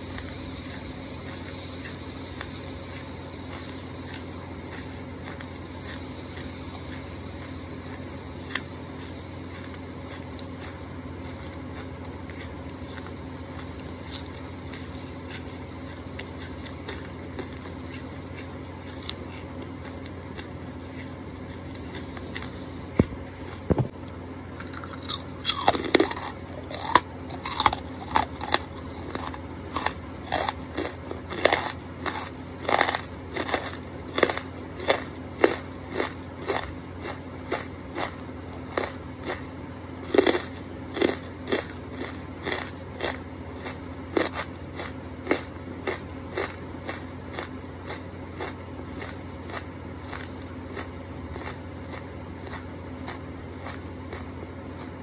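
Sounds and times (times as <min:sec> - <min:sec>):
chewing crunchy charcoal: 0:00.0 - 0:55.0
low steady hum: 0:00.0 - 0:55.0.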